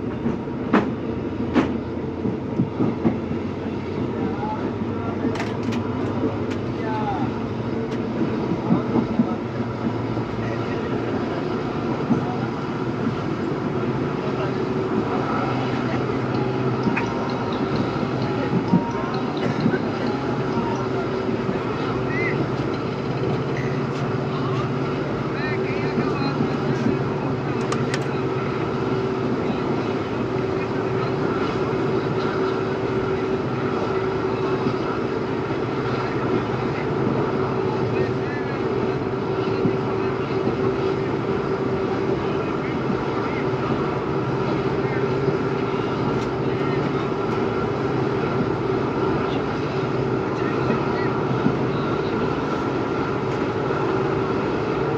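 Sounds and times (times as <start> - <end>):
diesel locomotive engine humming: 0.0 - 54.9
train rumbling: 0.0 - 54.9.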